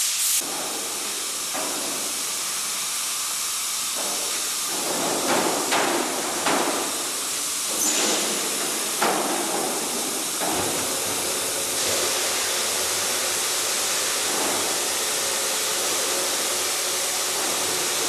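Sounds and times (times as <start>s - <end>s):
welding hiss: 0.0s - 18.0s.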